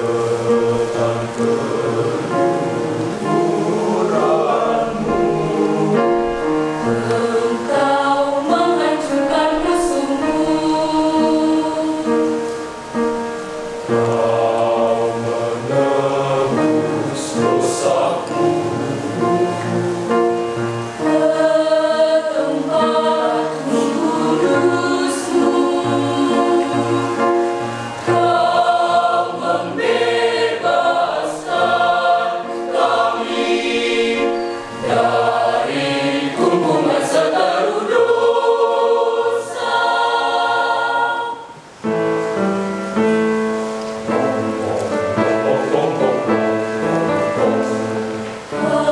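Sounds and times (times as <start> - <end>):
choir singing: 0.0 - 48.9.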